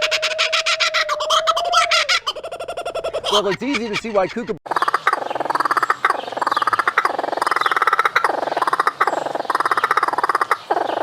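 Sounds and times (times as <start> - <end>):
kookaburra laughing call: 0.0 - 11.0.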